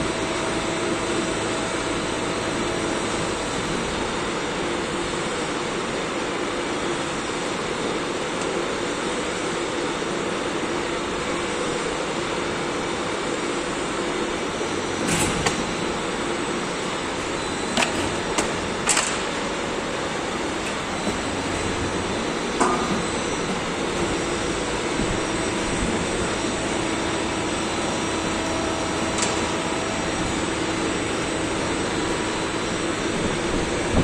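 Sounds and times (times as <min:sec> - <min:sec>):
moulding machine humming: 0:00.0 - 0:34.0.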